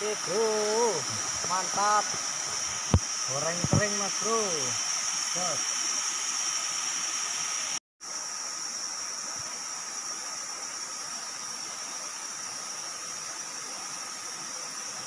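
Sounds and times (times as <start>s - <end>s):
flowing river water: 0.0s - 15.0s
high-pitched insect drone: 0.0s - 15.0s.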